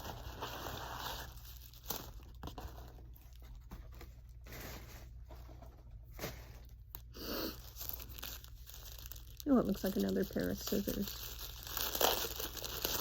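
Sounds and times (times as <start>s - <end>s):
paper packaging rustling: 0.0s - 13.0s.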